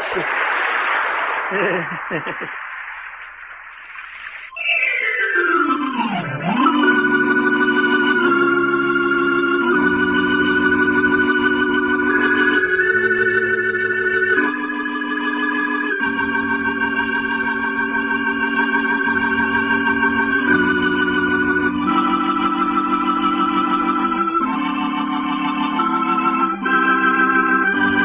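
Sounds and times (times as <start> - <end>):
organ chords with vibrato: 4.5 - 28.0.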